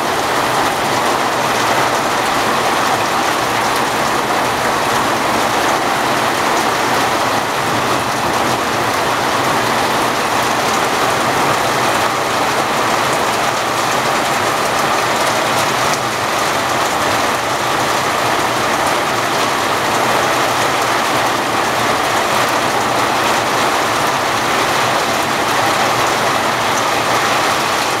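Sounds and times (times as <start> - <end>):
heavy rain on wet stone: 0.0 - 28.0.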